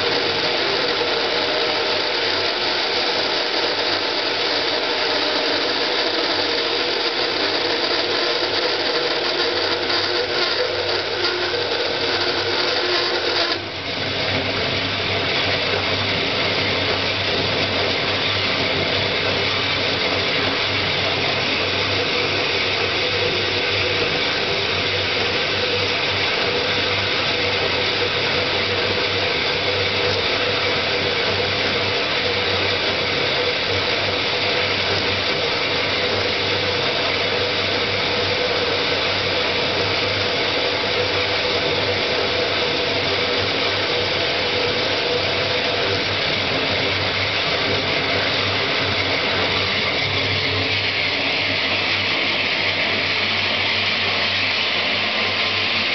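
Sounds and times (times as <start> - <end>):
bandsaw running: 0.0 - 55.9.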